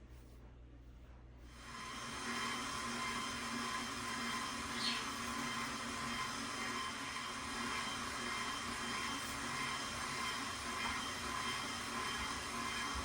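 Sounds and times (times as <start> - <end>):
stand mixer motor whine: 1.6 - 13.0.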